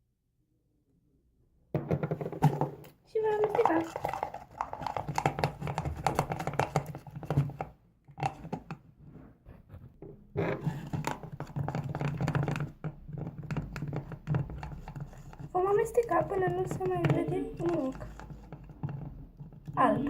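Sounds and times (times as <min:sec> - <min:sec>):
utensil stirring paint in container: 0:02.2 - 0:20.0.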